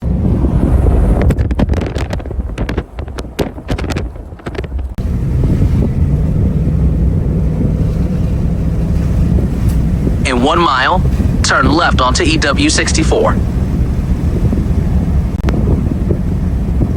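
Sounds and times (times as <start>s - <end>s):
wind buffeting microphone: 0.0s - 12.2s, 13.2s - 16.9s
low vehicle rumble: 0.0s - 16.9s.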